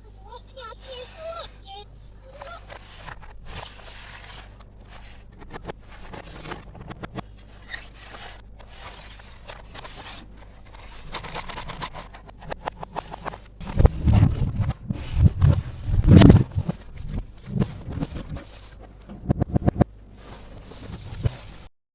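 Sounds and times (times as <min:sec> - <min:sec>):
plastic toy pieces scraping: 0:02.3 - 0:21.7.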